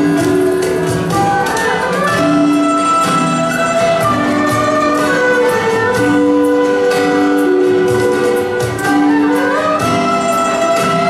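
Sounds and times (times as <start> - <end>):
bowed string sliding melody: 0.0 - 11.0
plucked string instruments: 0.0 - 11.0.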